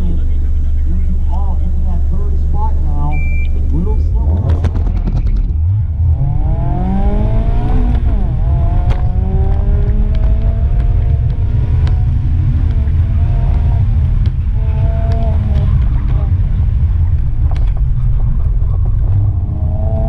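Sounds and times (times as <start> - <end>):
car engine accelerating hard: 0.0 - 20.0
wind and road noise rumble: 0.0 - 20.0.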